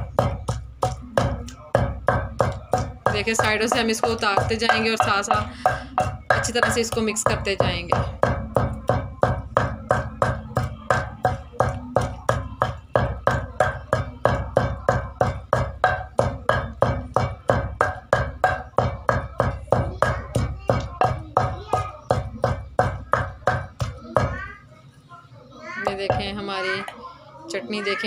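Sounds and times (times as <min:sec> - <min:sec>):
wooden pestle pounding in mortar: 0:00.0 - 0:24.5, 0:25.8 - 0:26.8.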